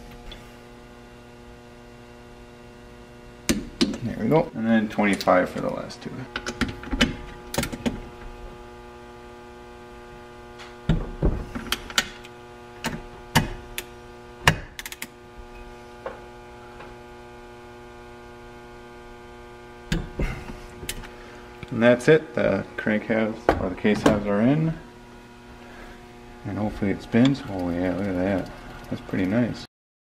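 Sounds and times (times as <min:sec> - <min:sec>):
electrical mains hum: 0:00.0 - 0:29.7.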